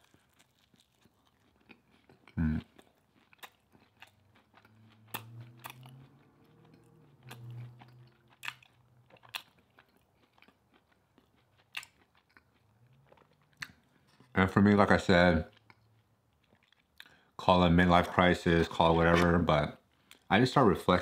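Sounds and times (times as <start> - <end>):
chewing food with crunches: 0.0 - 21.0.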